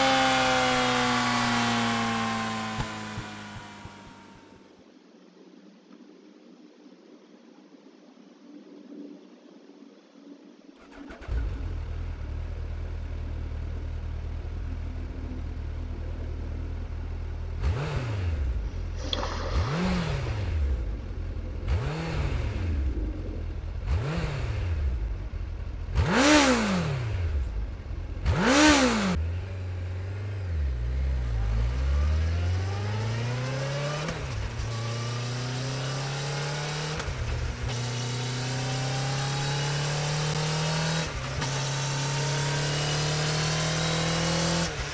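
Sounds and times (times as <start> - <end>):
motorcycle accelerating through gears: 0.0 - 4.5, 10.8 - 44.9
motorcycle engine revving: 0.0 - 4.5, 10.8 - 44.9.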